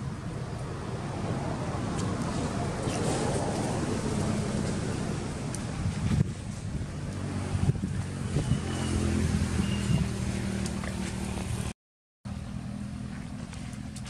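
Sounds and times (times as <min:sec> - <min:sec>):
engine humming: 0:00.0 - 0:11.7, 0:12.3 - 0:14.0.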